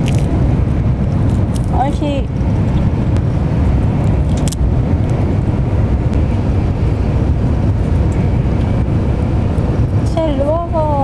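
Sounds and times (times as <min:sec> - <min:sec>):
train rumbling at speed: 0:00.0 - 0:11.0.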